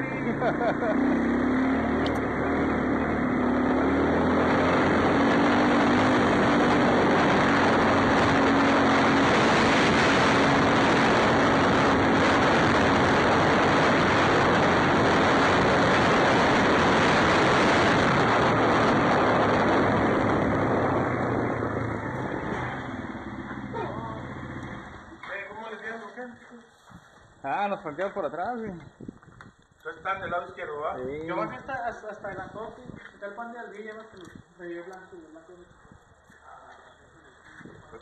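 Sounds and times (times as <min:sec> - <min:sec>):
wind roaring on microphone: 0:00.0 - 0:25.2, 0:28.4 - 0:33.4, 0:34.0 - 0:34.8, 0:35.5 - 0:38.0.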